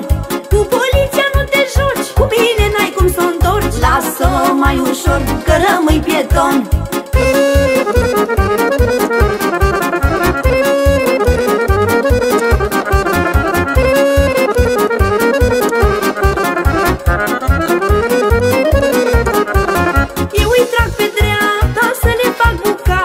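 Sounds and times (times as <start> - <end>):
accordion playing fast melody: 0.0 - 23.0
quick bass beat: 1.0 - 21.5.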